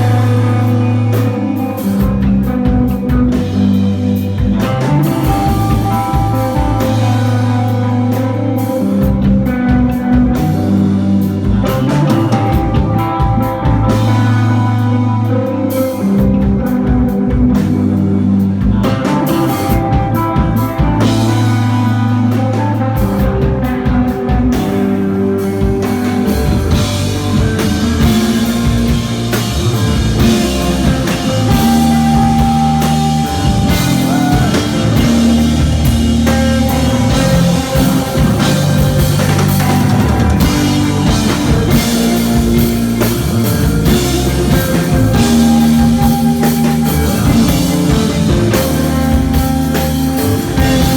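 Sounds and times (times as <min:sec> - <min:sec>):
bass guitar notes: 0:00.0 - 0:50.9
droning electric guitar: 0:00.0 - 0:50.9
drum kit beat: 0:00.0 - 0:50.9.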